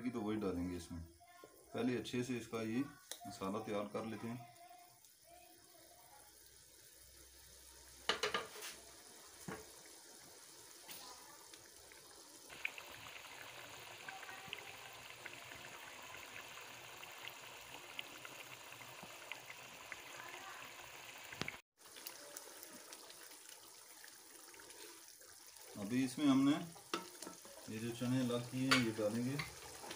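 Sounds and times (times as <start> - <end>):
sauce frying and bubbling in oil: 1.5 - 29.9.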